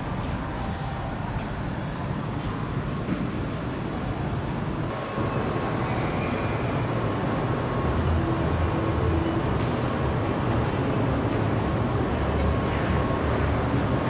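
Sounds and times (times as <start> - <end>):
traffic and machinery rumble: 0.0 - 14.0.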